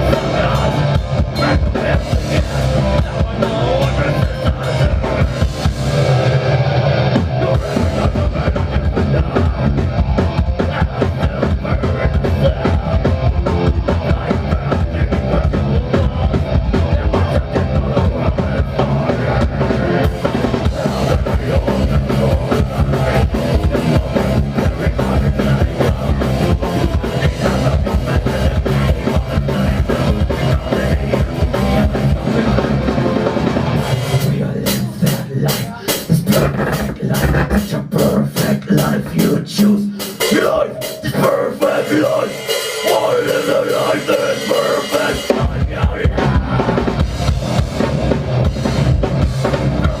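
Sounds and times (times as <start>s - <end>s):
distorted guitars and bass: 0.0s - 50.0s
rapid bass drum strokes: 0.0s - 50.0s.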